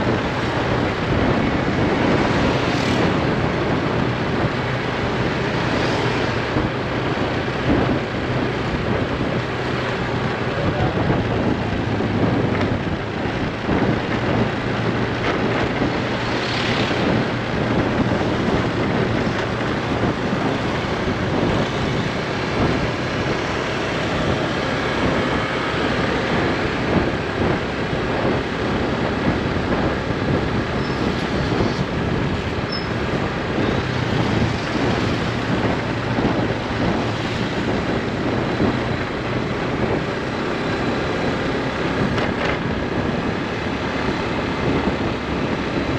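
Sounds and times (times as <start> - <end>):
motorbike engine hum: 0.0 - 45.9
wind and road noise: 0.0 - 45.9.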